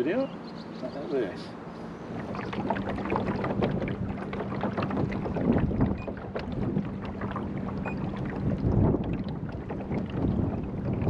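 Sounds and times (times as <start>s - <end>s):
low motor hum: 0.0s - 11.0s
water lapping against boat hull: 0.3s - 11.0s
wind on microphone: 2.0s - 11.0s.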